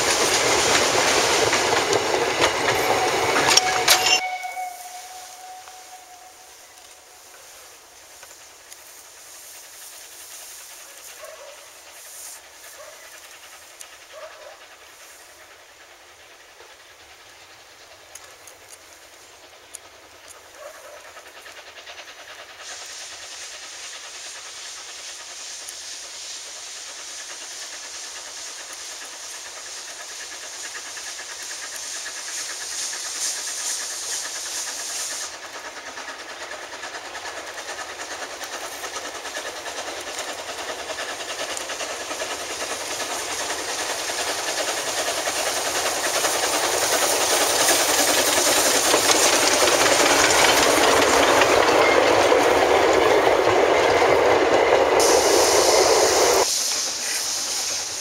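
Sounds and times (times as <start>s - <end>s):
steam hiss: 0.0s - 58.0s
steam locomotive chuffing: 0.0s - 58.0s.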